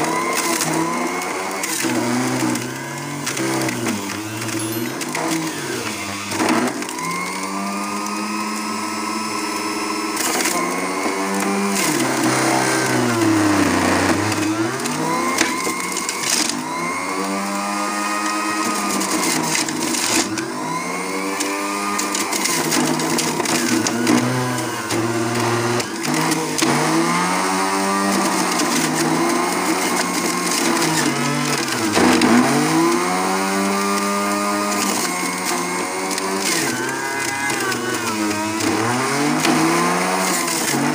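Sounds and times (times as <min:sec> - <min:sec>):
electric juicer motor running: 0:00.0 - 0:40.9.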